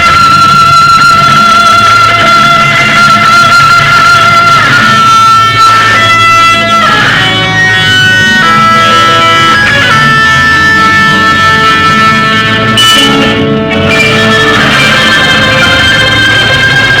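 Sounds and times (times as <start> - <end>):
loud guitar music: 0.0 - 17.0.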